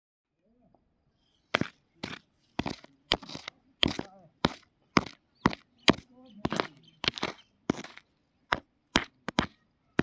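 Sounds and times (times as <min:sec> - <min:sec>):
stone being struck: 0:01.5 - 0:10.0.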